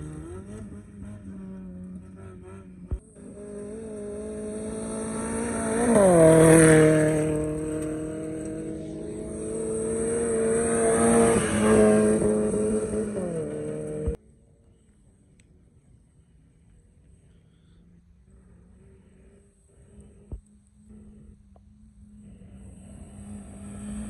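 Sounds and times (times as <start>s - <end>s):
rally cars driving past: 0.0s - 14.2s, 16.2s - 24.0s.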